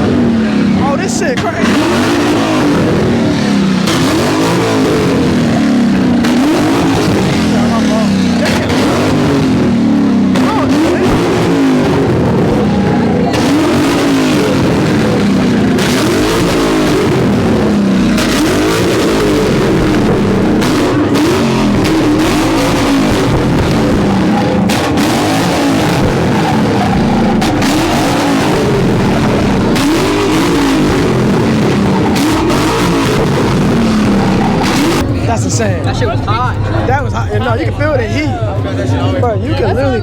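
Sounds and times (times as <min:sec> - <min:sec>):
car engine revving hard: 0:00.0 - 0:40.0
exhaust pops and crackles: 0:00.0 - 0:40.0.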